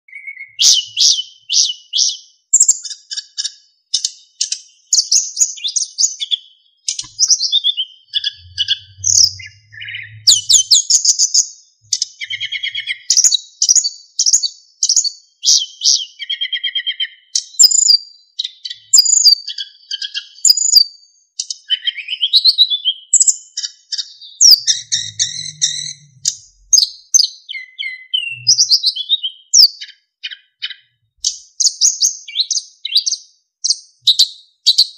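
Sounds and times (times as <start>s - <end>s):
flycatcher singing: 0.1s - 34.9s.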